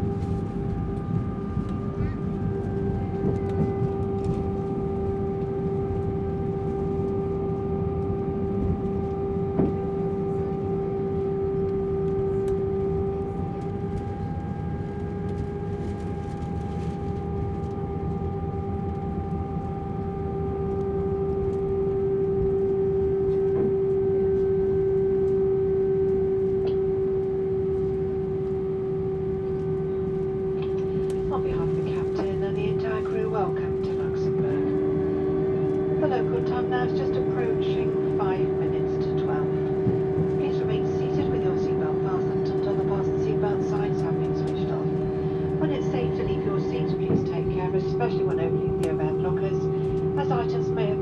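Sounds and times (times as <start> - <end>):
jet engines rumbling and whining: 0.0 - 51.0.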